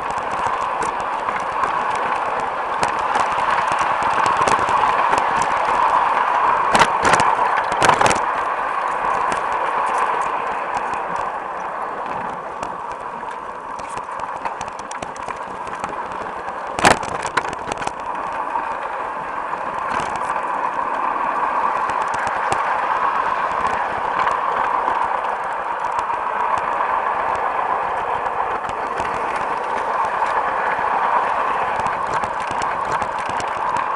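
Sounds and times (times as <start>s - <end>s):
model train whirring: 0.0s - 33.9s
wheels clicking over rail joints: 0.0s - 33.9s.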